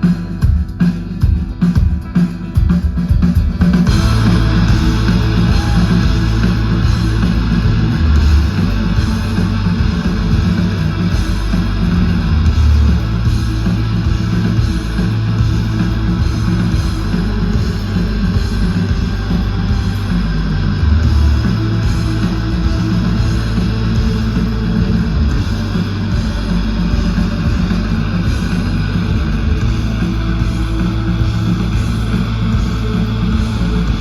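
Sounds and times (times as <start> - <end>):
drums: 0.0 - 34.0
rock band playing live: 0.0 - 34.0.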